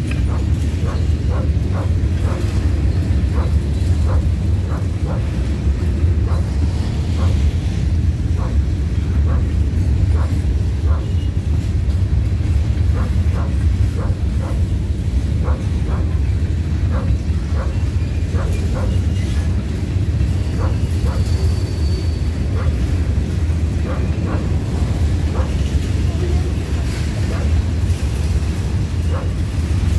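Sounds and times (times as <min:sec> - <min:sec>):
train cars rumbling past: 0:00.0 - 0:29.9
wheels clicking on rails: 0:00.0 - 0:29.9.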